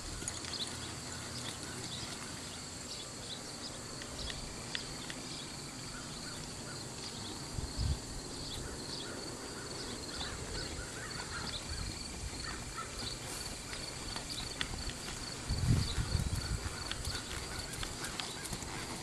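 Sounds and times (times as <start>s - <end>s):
horse hooves on dirt: 0.0s - 7.7s, 8.3s - 19.0s
insects trilling: 0.0s - 19.0s.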